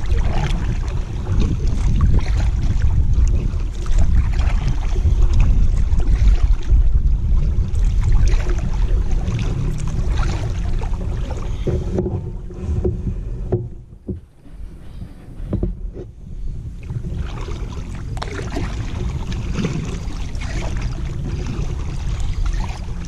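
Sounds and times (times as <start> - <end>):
water splashing: 0.0 - 12.9, 16.8 - 23.0
paddle strokes: 0.0 - 23.0
wind rumble on microphone: 0.0 - 23.0.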